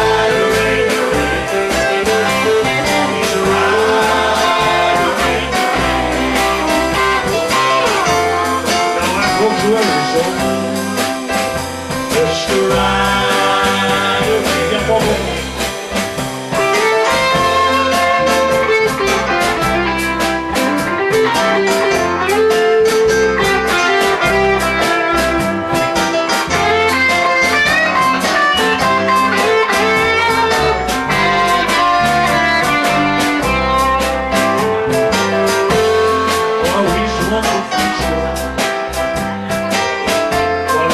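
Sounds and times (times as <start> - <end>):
blues guitar music with beat: 0.0 - 40.9.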